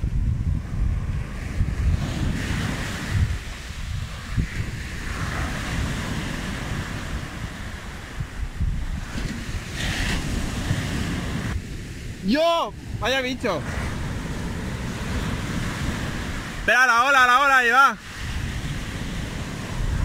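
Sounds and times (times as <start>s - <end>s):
small waves breaking on sand: 0.0s - 20.0s
wind buffeting microphone: 0.0s - 20.0s.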